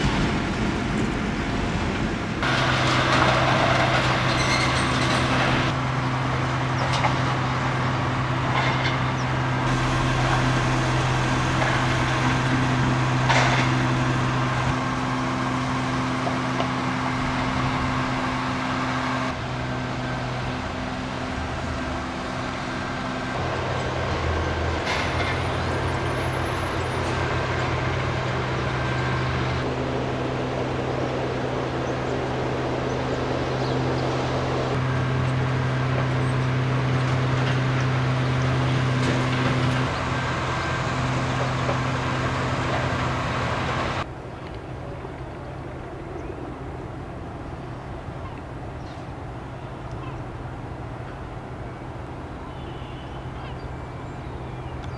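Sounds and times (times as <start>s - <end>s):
heavy machinery drone: 0.0s - 44.1s.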